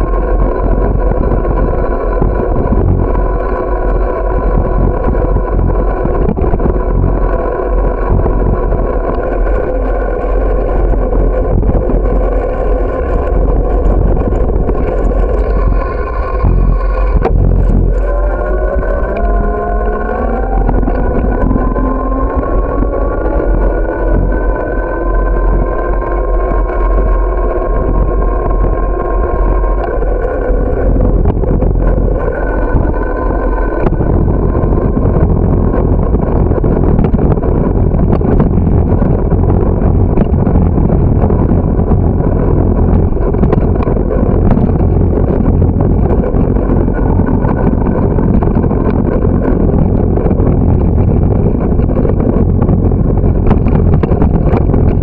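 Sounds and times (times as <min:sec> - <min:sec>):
steady pitched hum: 0:00.0 - 0:55.0
tyres rumbling on asphalt: 0:00.0 - 0:55.0
wind buffeting microphone: 0:00.0 - 0:55.0.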